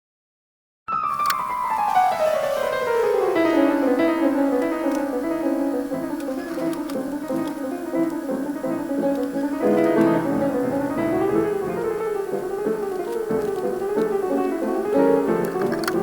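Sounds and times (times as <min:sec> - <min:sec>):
background music: 0:01.2 - 0:16.0.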